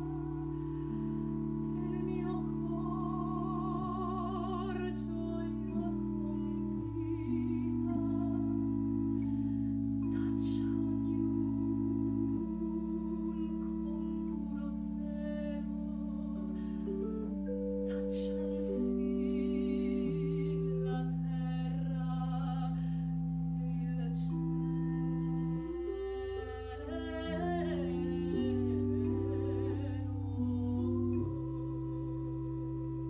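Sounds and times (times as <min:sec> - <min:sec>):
woman singing aria with vibrato: 0:00.0 - 0:32.7
chamber organ held chords: 0:00.0 - 0:33.0.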